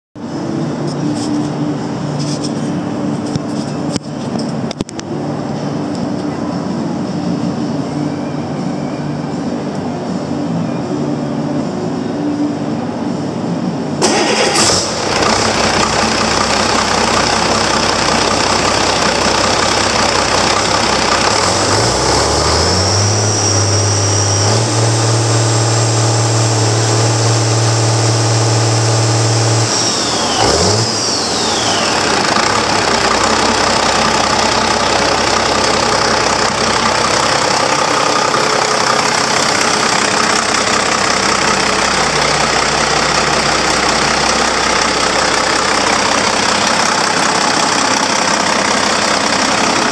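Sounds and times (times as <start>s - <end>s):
diesel engine idling and revving: 0.2s - 49.9s.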